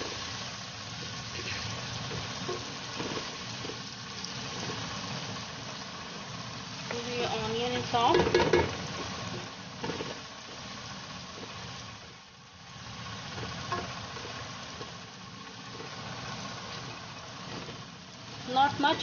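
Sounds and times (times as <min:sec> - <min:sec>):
spatula scraping wok: 0:00.0 - 0:05.6, 0:06.8 - 0:10.7, 0:12.8 - 0:19.0
onions sizzling in oil: 0:00.0 - 0:19.0.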